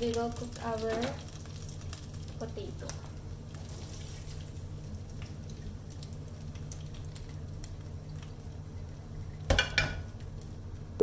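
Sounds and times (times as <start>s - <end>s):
garlic frying in oil: 0.0s - 11.0s
oil popping and crackling: 0.0s - 11.0s
steady low hum: 0.0s - 11.0s.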